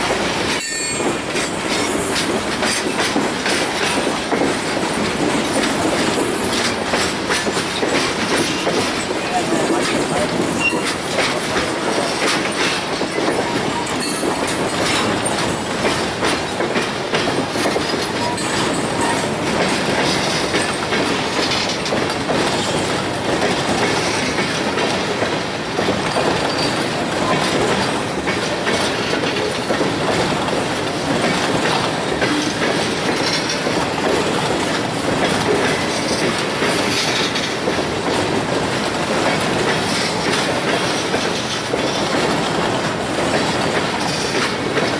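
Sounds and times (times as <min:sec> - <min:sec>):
train wheels clattering over rail joints: 0:00.0 - 0:44.9.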